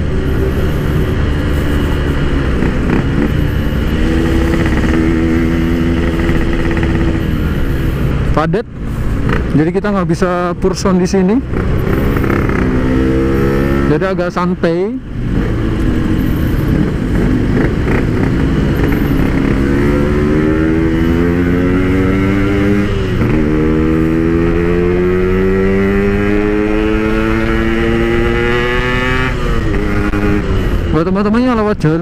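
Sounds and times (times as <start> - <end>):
motorcycle accelerating: 0.0 - 32.0.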